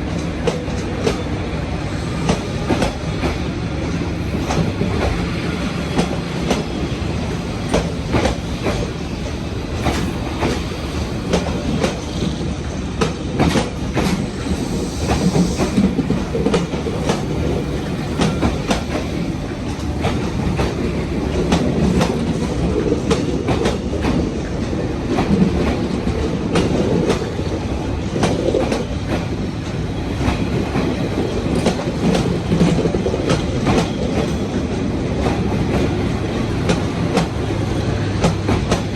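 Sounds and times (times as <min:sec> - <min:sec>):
train carriages rumbling past: 0:00.0 - 0:38.9.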